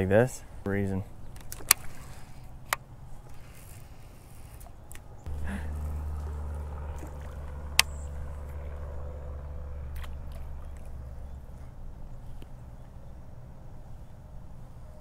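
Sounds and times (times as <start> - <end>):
low hum: 0.4 - 15.0.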